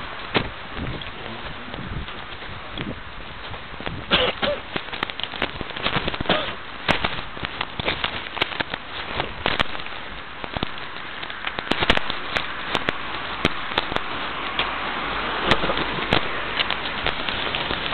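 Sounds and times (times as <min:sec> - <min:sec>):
sharp clicks and crackles: 0:00.0 - 0:17.9.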